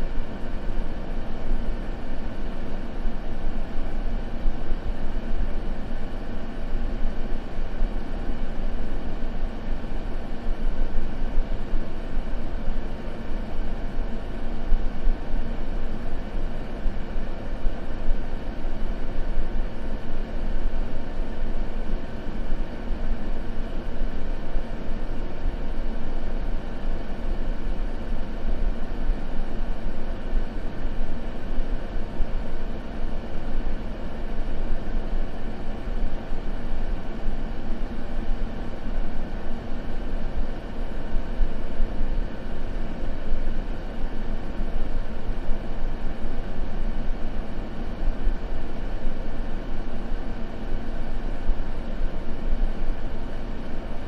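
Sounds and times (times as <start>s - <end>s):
low white noise rumble: 0.0s - 54.0s.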